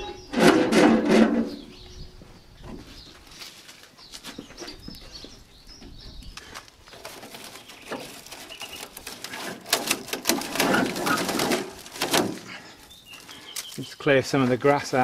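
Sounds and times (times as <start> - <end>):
rustling grass and bristle clicks: 2.8 - 15.0.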